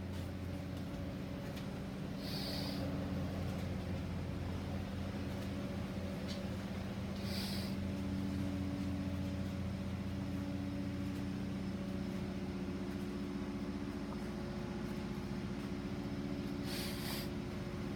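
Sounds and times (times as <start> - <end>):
machine hum: 0.0 - 17.9.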